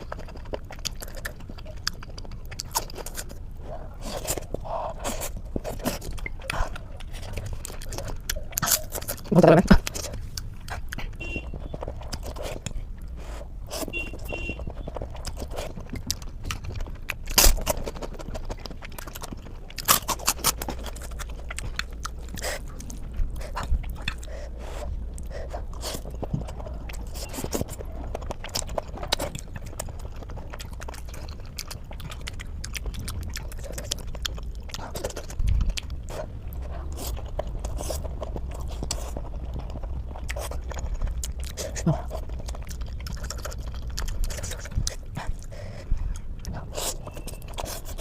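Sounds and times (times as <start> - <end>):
person chewing and biting: 0.0 - 48.0.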